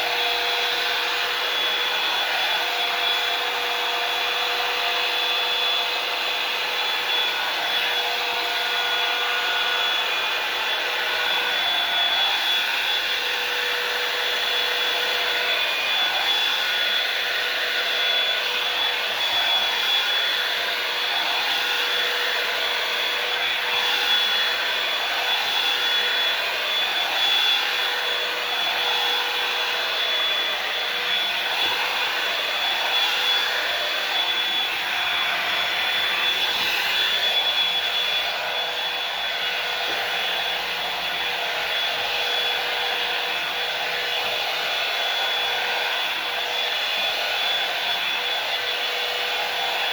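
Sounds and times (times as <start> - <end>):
hair dryer running: 0.0 - 49.9.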